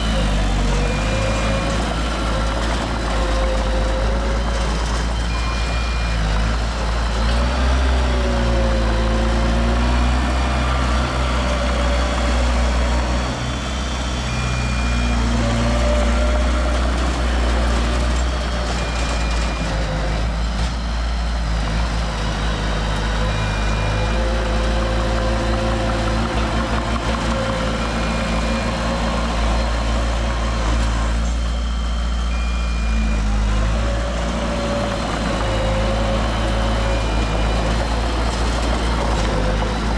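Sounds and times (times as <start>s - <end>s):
reversing alarm beeping: 0.0s - 20.3s, 21.2s - 39.9s
diesel machinery engine working: 0.0s - 39.9s.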